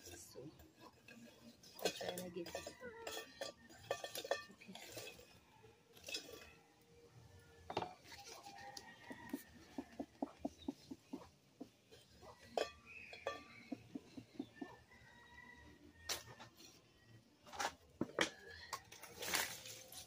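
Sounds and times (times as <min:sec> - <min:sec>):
faint clinks and knocks in stove: 0:00.0 - 0:19.1.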